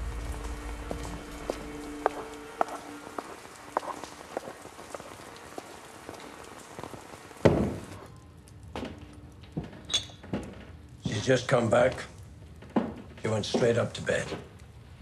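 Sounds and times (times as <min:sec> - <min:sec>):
steady rain: 0:00.0 - 0:15.0
water drips and patters: 0:00.0 - 0:15.0.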